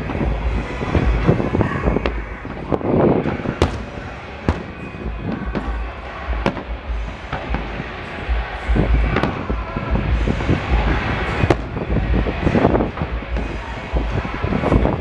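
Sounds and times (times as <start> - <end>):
fireworks bangs: 0.0 - 15.0
fireworks crackling: 0.0 - 15.0
low rumble: 0.0 - 15.0.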